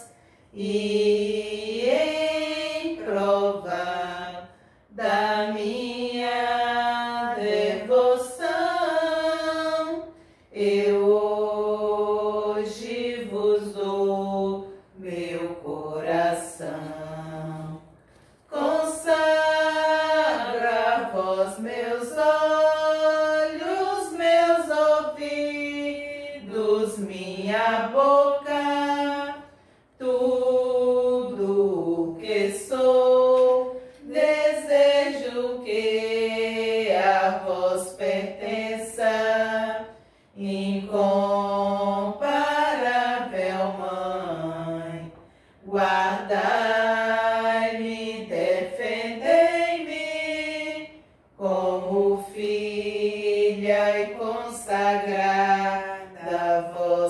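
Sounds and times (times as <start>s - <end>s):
women singing a cappella hymn: 0.0s - 57.0s.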